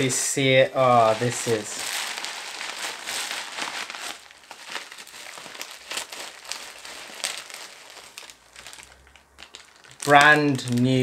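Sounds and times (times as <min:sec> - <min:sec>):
bubble wrap crinkling: 0:00.8 - 0:11.0.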